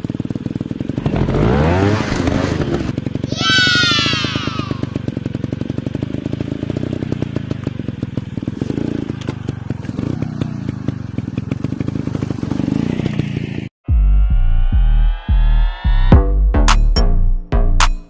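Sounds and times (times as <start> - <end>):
dirt bike engine running: 0.0 - 15.6.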